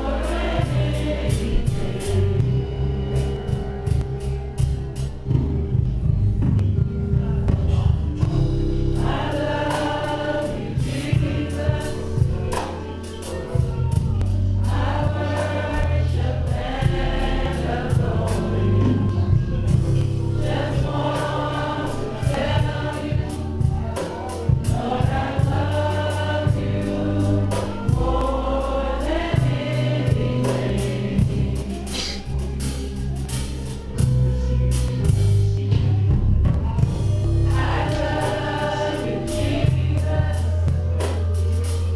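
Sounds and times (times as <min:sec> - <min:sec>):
bass notes: 0:00.0 - 0:41.9
choir singing gospel: 0:00.0 - 0:41.9
drums: 0:00.0 - 0:41.9.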